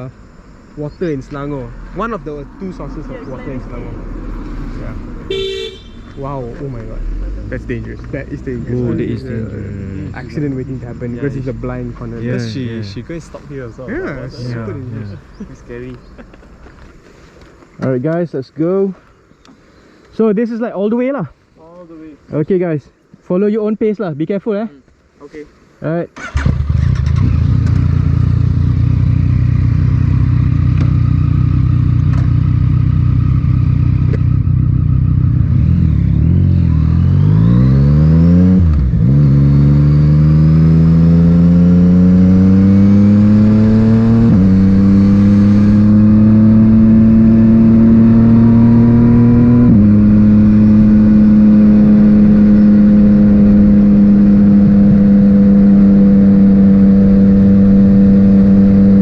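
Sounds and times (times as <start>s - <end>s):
motorcycle engine accelerating: 0.0s - 16.4s, 26.2s - 59.0s.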